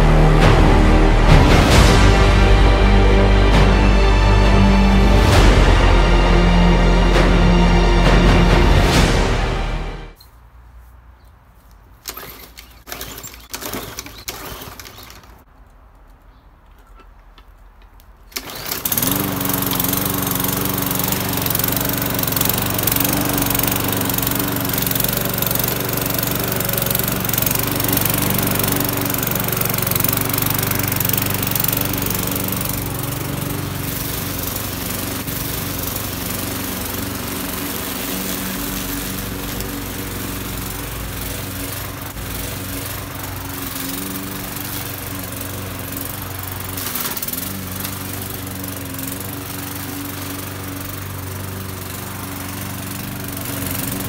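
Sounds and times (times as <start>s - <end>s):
lawnmower running: 0.0s - 10.2s, 12.0s - 15.5s, 18.3s - 54.0s.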